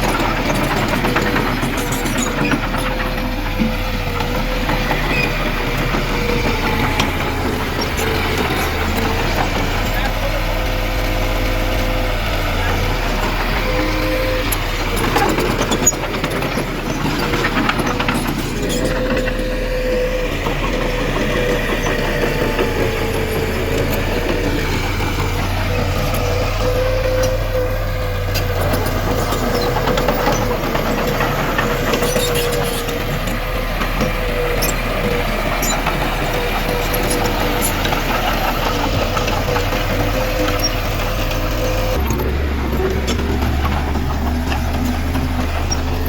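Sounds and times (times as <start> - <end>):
heavy diesel machinery running: 0.0 - 46.0
machinery whine: 0.0 - 46.0.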